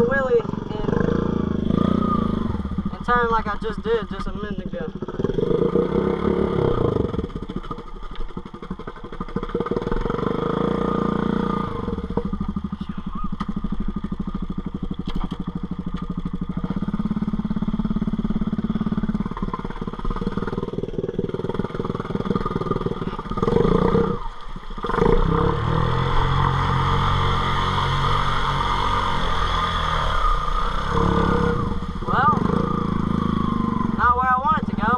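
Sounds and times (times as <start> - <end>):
atv engine revving: 0.0 - 34.9.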